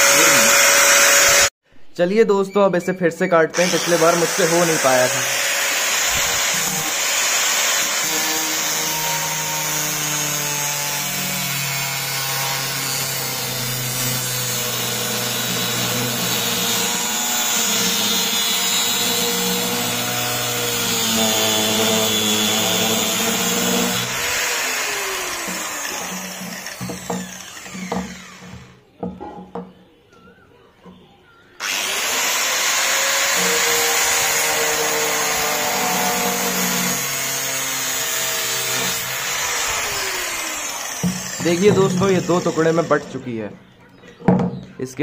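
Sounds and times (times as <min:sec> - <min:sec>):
angle grinder cutting battery: 0:00.0 - 0:01.5, 0:03.5 - 0:28.8, 0:31.6 - 0:43.2.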